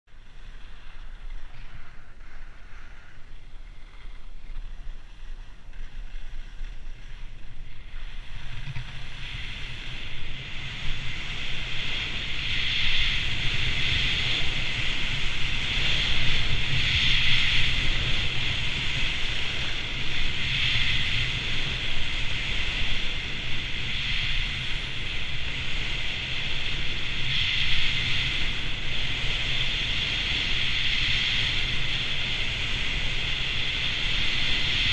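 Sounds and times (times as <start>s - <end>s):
wind buffeting microphone: 0.1s - 34.9s
ski edges scraping on snow: 0.4s - 30.5s.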